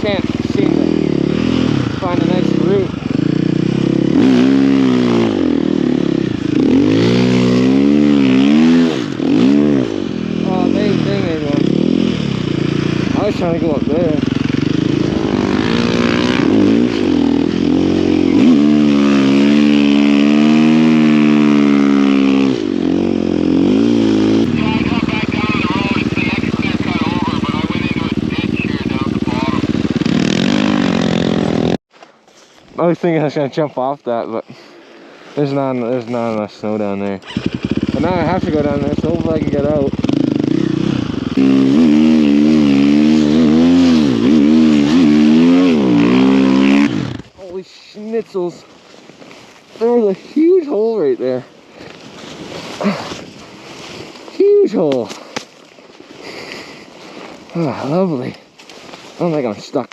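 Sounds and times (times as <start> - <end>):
dirt bike engine revving: 0.0 - 31.8, 35.4 - 48.6, 49.8 - 58.5.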